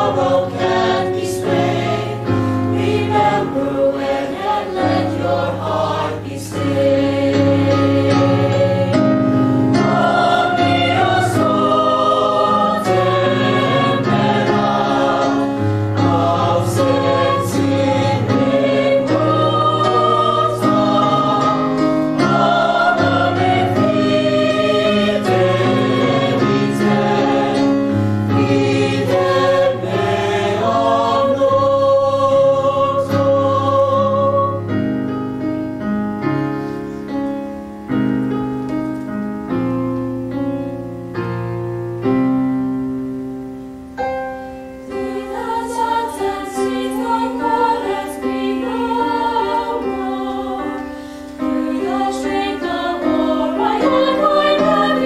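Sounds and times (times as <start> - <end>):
choir singing in harmony: 0.0 - 35.8, 43.7 - 55.0
piano accompaniment: 0.0 - 55.0.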